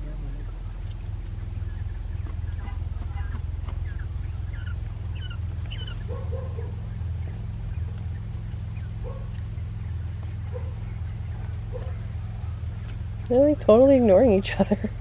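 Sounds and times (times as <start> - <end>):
quail chirping and peeping: 0.0 - 15.0
steady low hum: 0.0 - 15.0.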